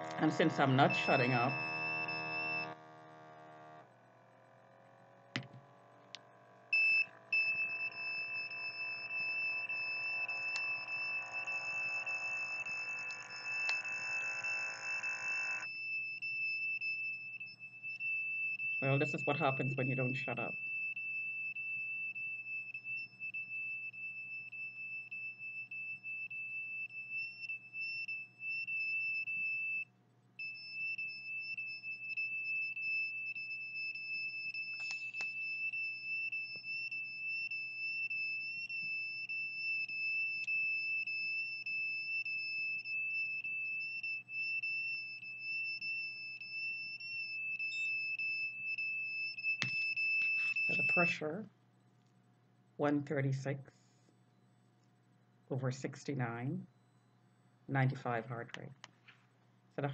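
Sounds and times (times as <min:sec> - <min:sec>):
high-pitched alarm tone: 0:00.0 - 0:03.8, 0:06.6 - 0:51.4.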